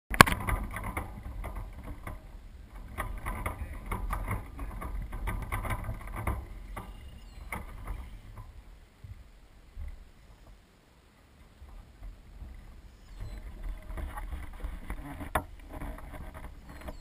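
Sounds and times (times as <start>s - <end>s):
handling knocks and clicks on hull: 0.1s - 10.6s, 11.3s - 17.0s.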